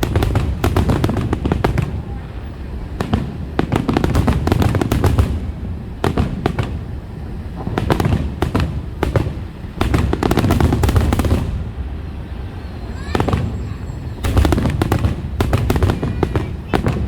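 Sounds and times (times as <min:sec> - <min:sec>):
fireworks bursts: 0:00.0 - 0:17.0.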